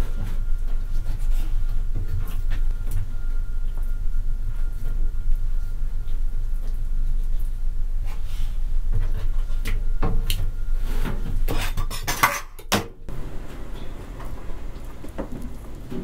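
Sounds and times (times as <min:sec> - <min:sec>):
steady low hum: 0:00.0 - 0:11.9, 0:13.0 - 0:16.0.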